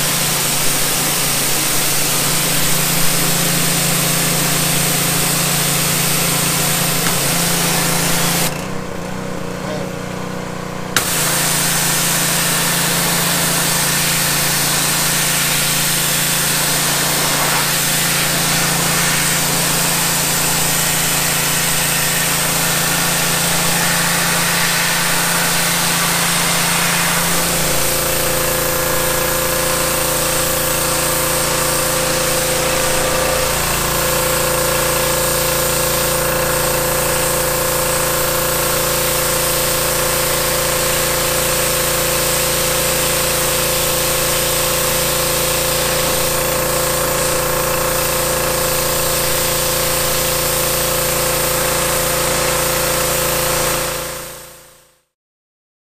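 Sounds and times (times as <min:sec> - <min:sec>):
pressure washer spraying water: 0:00.0 - 0:09.2, 0:10.9 - 0:54.6.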